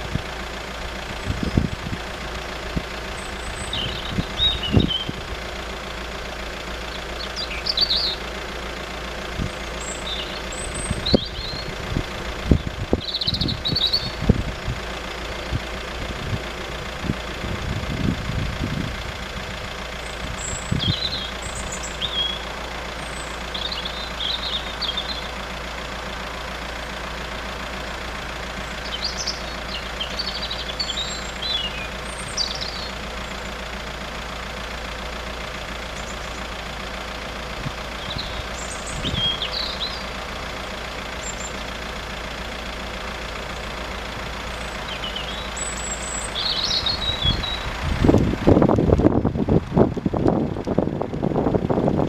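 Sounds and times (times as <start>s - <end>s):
engines idling: 0.0s - 52.0s
road traffic rumble: 0.0s - 52.0s.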